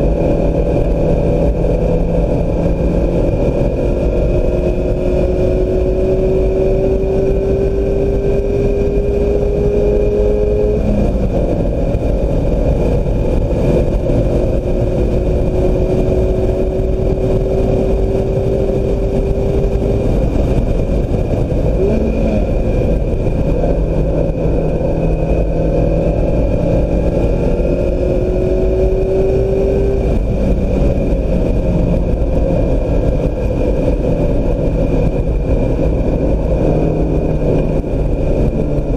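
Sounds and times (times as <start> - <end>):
car engine under load: 0.0 - 38.9
road and wind noise: 0.0 - 38.9.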